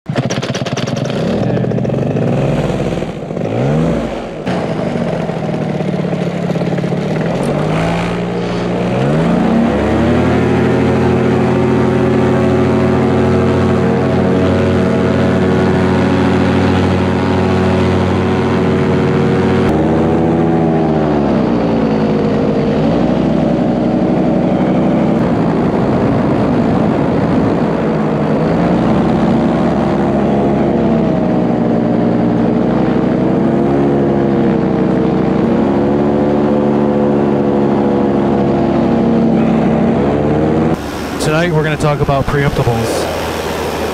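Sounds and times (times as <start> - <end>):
paramotor engine and propeller: 0.1 - 43.9.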